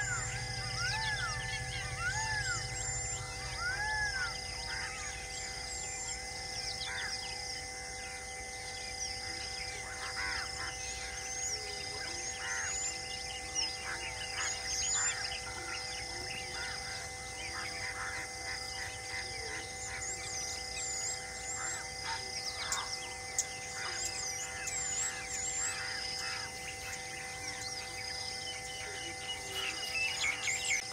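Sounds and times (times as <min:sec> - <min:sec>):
birds chirping and whistling: 0:00.0 - 0:30.9
pulsing insect drone: 0:00.0 - 0:30.9.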